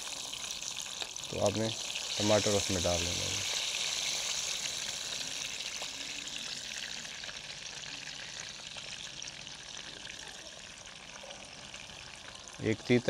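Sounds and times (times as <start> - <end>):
tomato slices sizzling in oil: 0.0 - 13.0.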